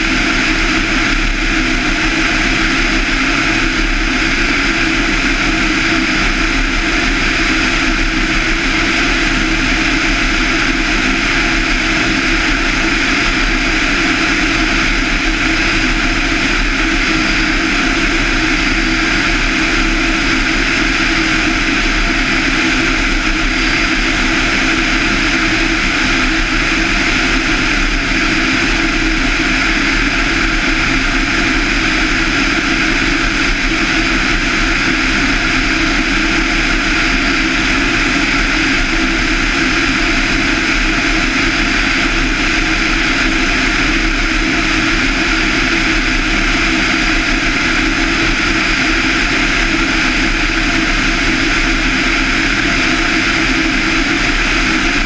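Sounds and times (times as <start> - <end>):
aircraft engine and propeller drone: 0.0 - 55.0.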